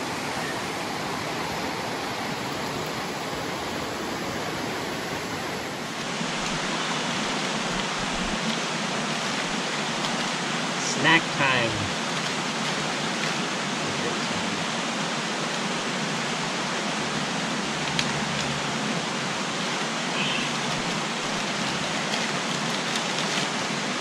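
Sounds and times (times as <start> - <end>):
creek flowing over rocks: 0.0 - 24.0.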